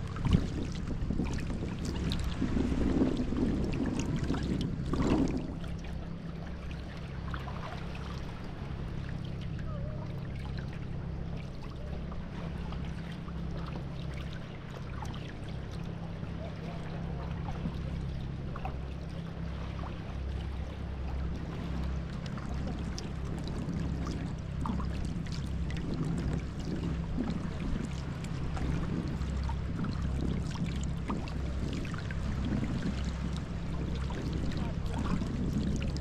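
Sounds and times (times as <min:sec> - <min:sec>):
low rumble: 0:00.0 - 0:36.0
paddle splashes and drips: 0:00.0 - 0:36.0
water trickling around kayak: 0:00.0 - 0:36.0.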